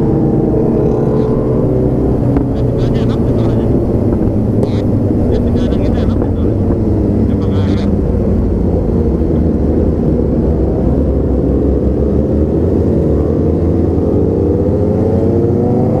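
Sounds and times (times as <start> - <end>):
motorcycle engine accelerating: 0.0 - 16.0
wind rumble: 0.0 - 16.0.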